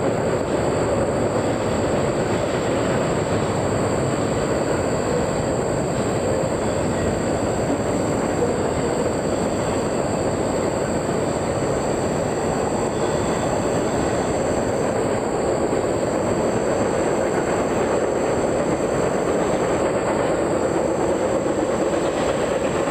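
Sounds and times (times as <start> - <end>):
train cars rolling on rails: 0.0 - 22.9.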